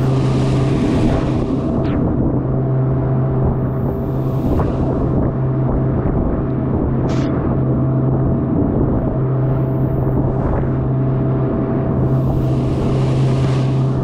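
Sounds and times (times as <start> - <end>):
boat motor humming: 0.0 - 14.0
wind on microphone: 0.0 - 14.0.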